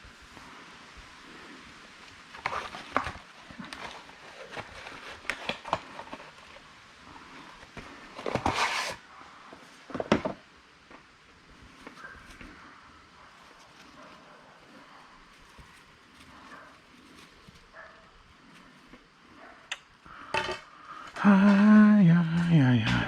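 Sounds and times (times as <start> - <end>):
rustling: 0.0 - 21.8.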